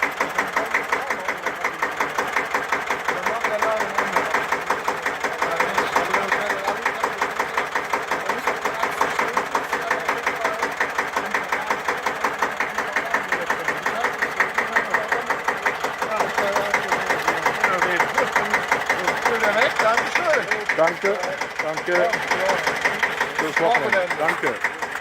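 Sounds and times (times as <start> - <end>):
diesel tractor engine idling: 0.0 - 25.0.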